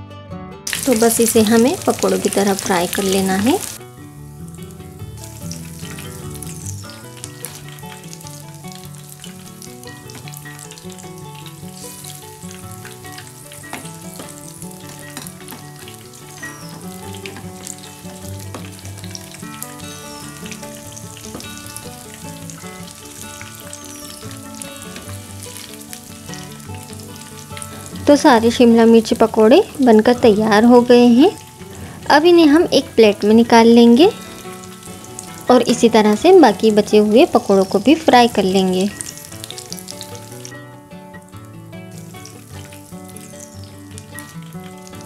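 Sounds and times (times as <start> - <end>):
food sizzling in hot oil: 0.7 - 45.0.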